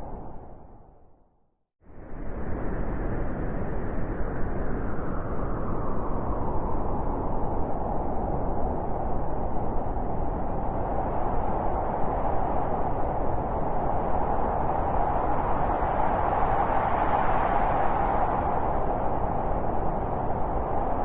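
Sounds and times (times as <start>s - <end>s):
wind blowing steadily: 0.0s - 1.2s, 1.8s - 21.0s.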